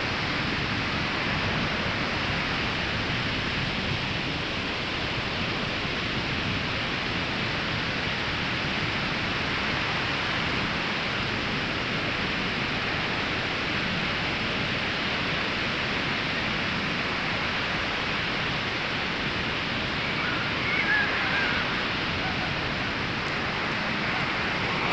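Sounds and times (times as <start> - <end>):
ocean waves on beach: 0.0 - 24.9.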